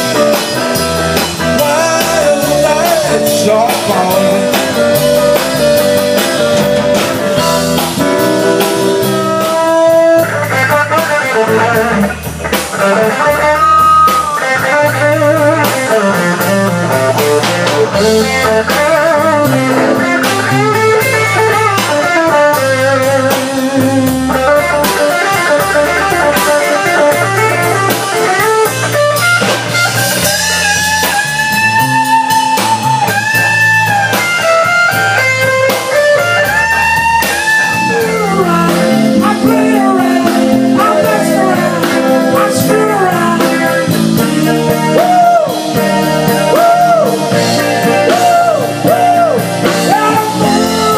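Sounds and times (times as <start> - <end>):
bass guitar line: 0.0 - 50.9
drum kit playing: 0.0 - 50.9
electric guitar lead lines: 0.0 - 50.9.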